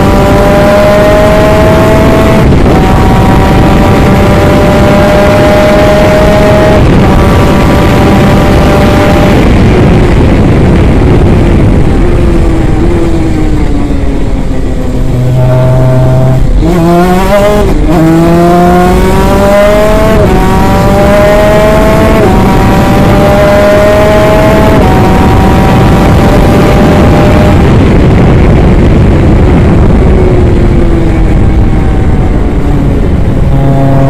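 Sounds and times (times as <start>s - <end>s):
wind rush: 0.0s - 34.0s.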